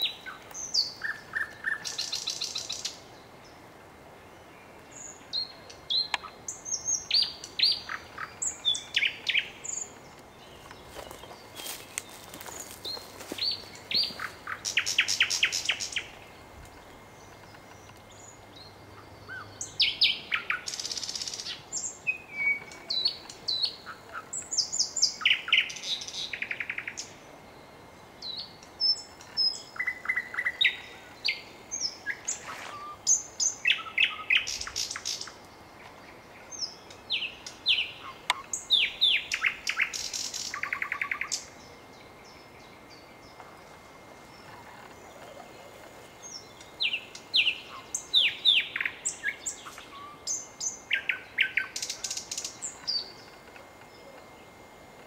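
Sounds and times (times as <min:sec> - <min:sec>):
nightingale singing: 0:00.0 - 0:03.6, 0:04.4 - 0:54.5.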